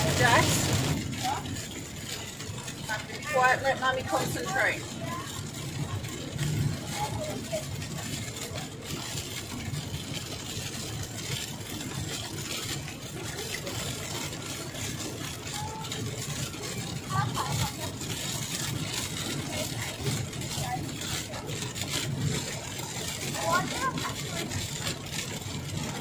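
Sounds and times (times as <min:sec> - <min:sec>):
engine and road hum: 0:00.0 - 0:26.0.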